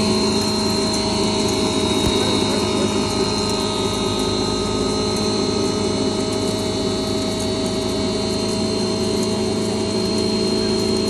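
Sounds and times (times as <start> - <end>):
grinding machine whirring and whining: 0.0 - 11.0.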